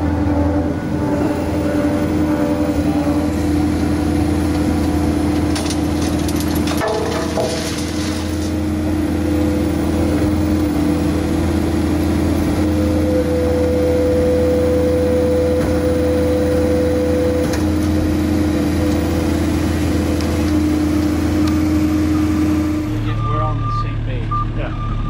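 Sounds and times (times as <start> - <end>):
hydraulic whine: 0.0 - 23.9
diesel engine running under load: 0.0 - 25.0.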